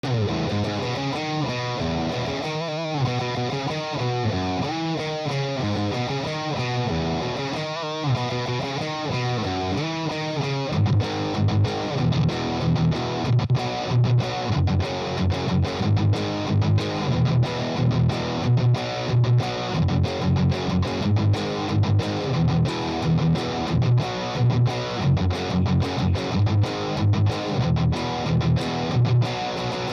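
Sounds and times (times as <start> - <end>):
distorted electric guitar: 0.0 - 29.9.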